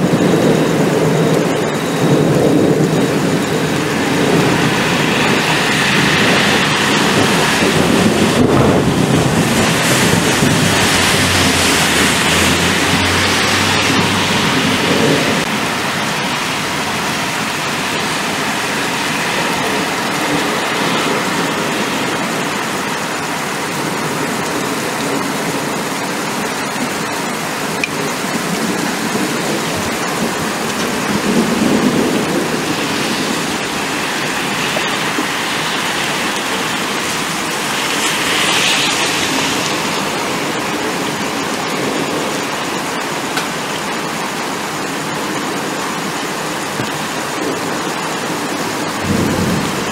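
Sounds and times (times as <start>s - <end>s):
steady rain: 0.0s - 49.9s
thunder rumbling: 0.0s - 49.9s.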